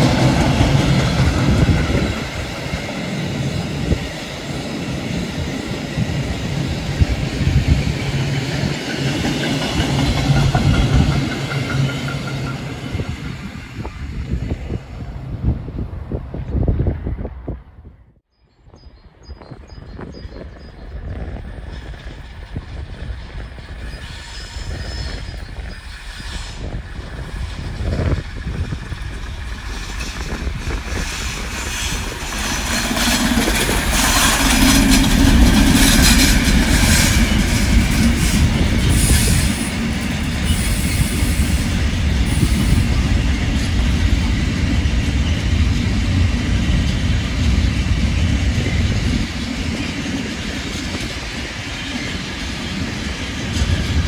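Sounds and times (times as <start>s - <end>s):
diesel locomotive engine: 0.0s - 18.2s, 19.8s - 54.0s.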